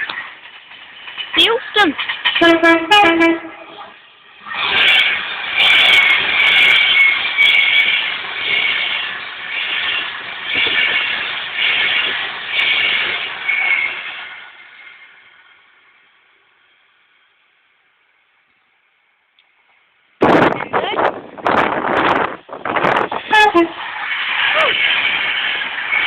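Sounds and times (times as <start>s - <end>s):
train wheels on rails: 0.0s - 17.7s, 18.4s - 26.0s
high steady train tones: 0.0s - 26.0s.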